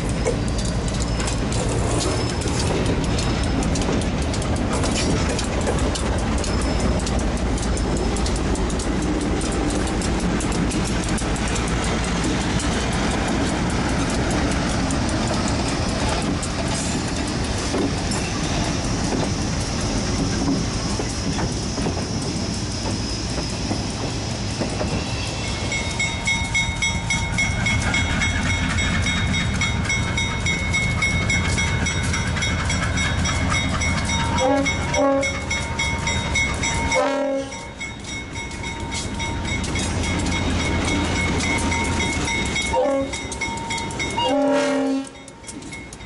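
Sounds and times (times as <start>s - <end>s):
wheel squeals: 0.0s - 8.9s, 15.2s - 46.0s
freight train rumbling: 0.0s - 46.0s
wheels clicking over rail joints: 0.0s - 46.0s.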